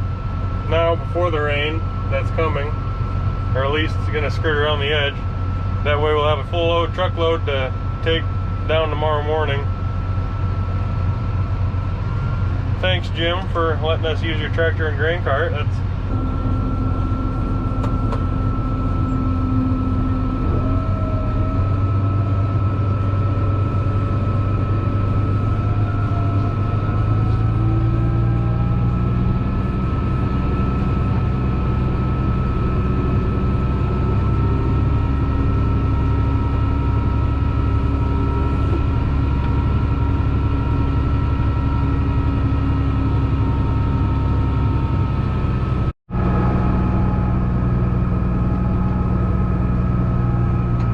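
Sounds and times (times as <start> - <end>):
tractor engine running under load: 0.0 - 50.9.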